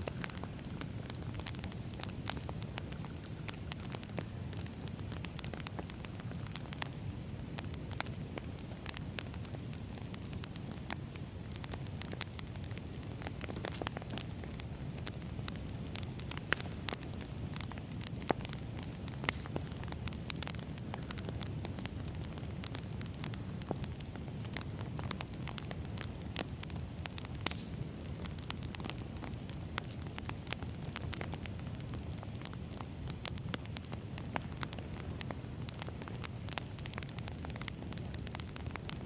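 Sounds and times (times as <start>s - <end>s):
burning logs crackling and popping: 0.0s - 39.0s
fire low rumble: 0.0s - 39.0s.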